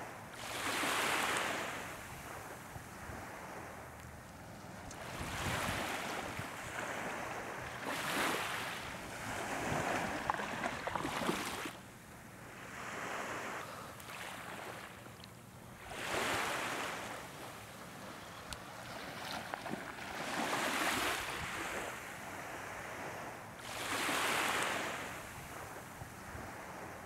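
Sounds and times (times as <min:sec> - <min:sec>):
small waves washing on sand: 0:00.0 - 0:11.8, 0:12.5 - 0:15.0, 0:15.8 - 0:27.0.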